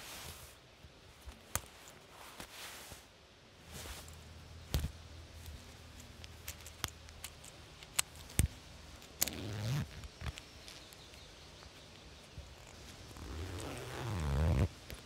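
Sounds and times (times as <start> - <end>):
fabric rustle: 0.0 - 15.0.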